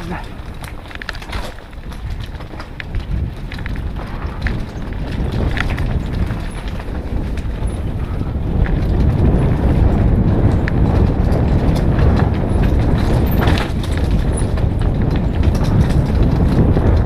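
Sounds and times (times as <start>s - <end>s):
bike and stone rattles: 0.0s - 17.0s
tyres rumbling on dirt trail: 0.0s - 17.0s
wind on microphone: 0.0s - 17.0s.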